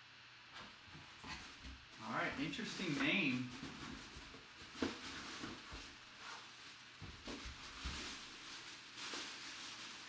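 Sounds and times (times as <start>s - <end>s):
plastic bag rustling: 0.6s - 10.0s.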